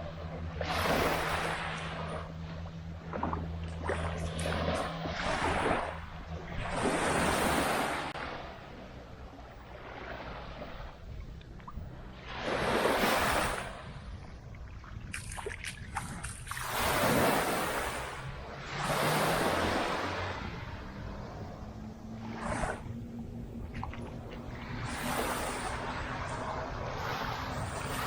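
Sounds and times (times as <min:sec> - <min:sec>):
small waves breaking on beach: 0:00.0 - 0:28.0
wind rumbling on microphone: 0:00.0 - 0:28.0.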